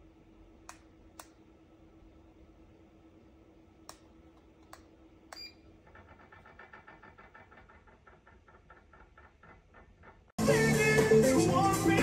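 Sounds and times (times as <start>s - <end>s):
ceiling fan humming: 0.0s - 10.3s.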